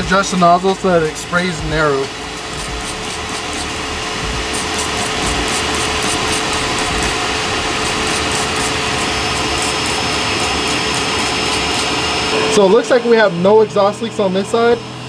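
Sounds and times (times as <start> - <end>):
vacuum cleaner blowing air: 0.0 - 15.0.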